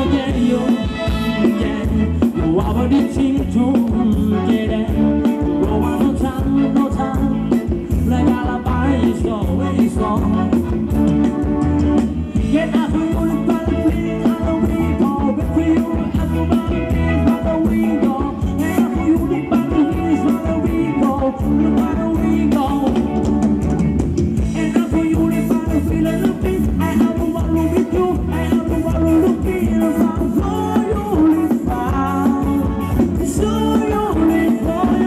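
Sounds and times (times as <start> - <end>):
person singing: 0.0 - 23.8, 24.4 - 35.0
bass: 0.0 - 35.0
live band dance music: 0.0 - 35.0
steady drum beat: 0.0 - 35.0.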